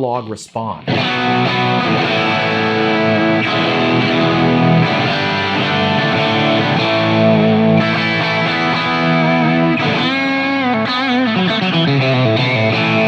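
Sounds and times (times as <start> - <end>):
overdriven electric guitar: 0.8 - 13.0.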